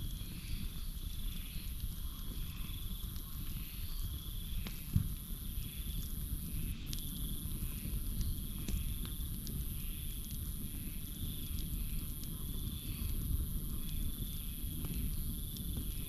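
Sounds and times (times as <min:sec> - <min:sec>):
frogs chirping: 0:00.0 - 0:06.9, 0:07.6 - 0:16.0
campfire crackling: 0:00.0 - 0:16.0
crickets trilling: 0:00.0 - 0:16.0.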